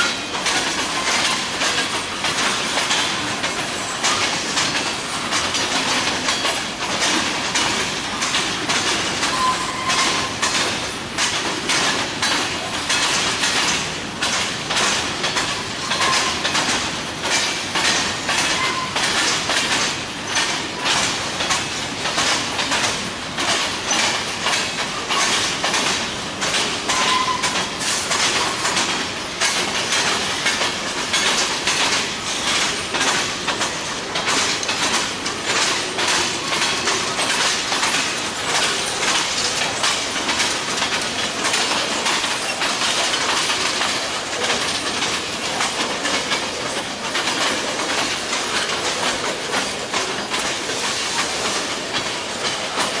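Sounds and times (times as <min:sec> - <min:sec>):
train wheels clicking over rail joints: 0:00.0 - 0:53.0.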